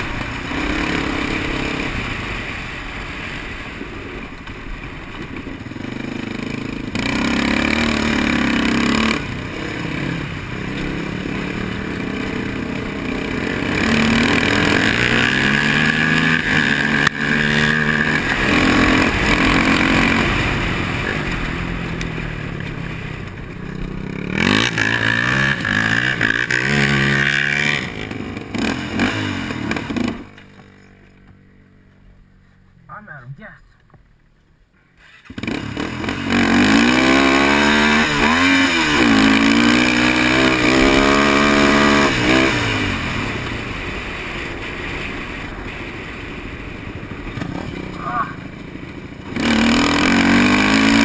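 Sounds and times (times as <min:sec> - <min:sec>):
quad engine revving: 0:00.0 - 0:02.4, 0:05.6 - 0:30.7, 0:35.0 - 0:51.0
gravel noise: 0:00.0 - 0:51.0.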